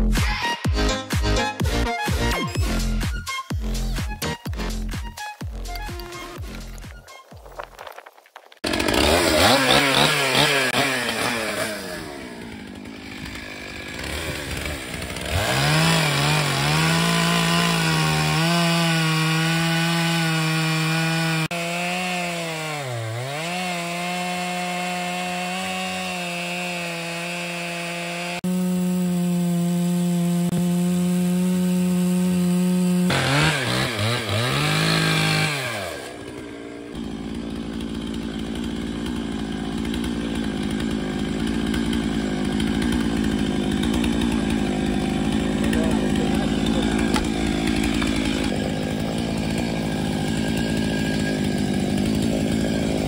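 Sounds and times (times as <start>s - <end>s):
chainsaw revving and cutting log: 0.0s - 53.0s.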